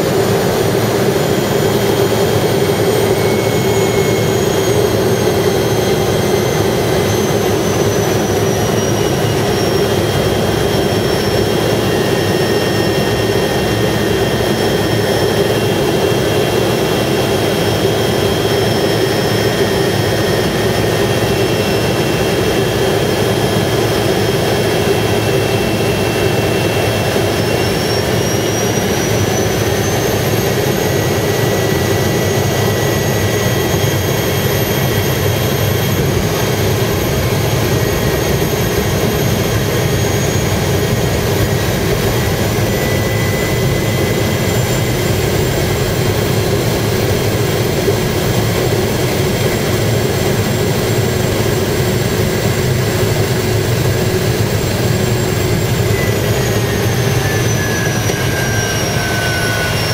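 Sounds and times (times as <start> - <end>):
propeller plane engine: 0.0 - 59.9.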